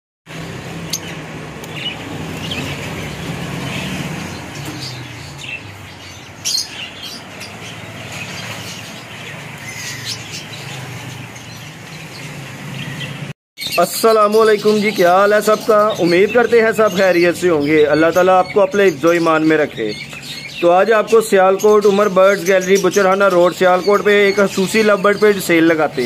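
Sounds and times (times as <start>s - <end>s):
lovebirds chirping: 0.5s - 26.0s.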